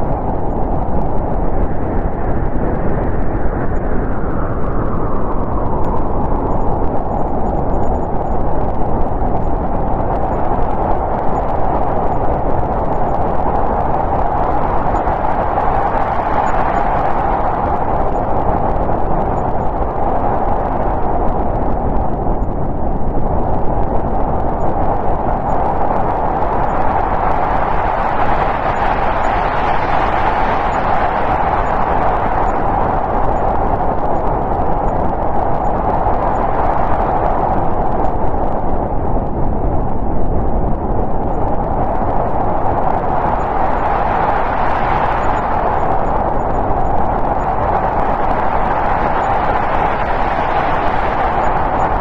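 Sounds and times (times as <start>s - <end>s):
snowstorm wind blowing hard: 0.0s - 52.0s.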